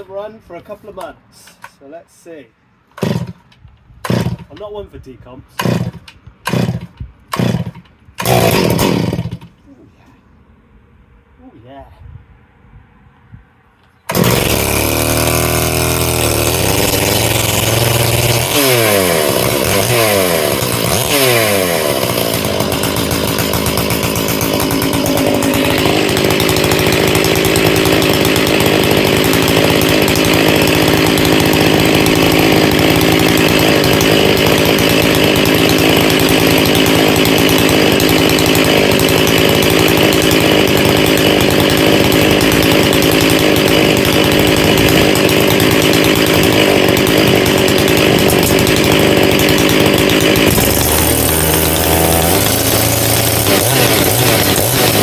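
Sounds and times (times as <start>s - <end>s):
chainsaw revving: 2.9s - 4.7s, 5.6s - 9.6s, 14.1s - 55.0s.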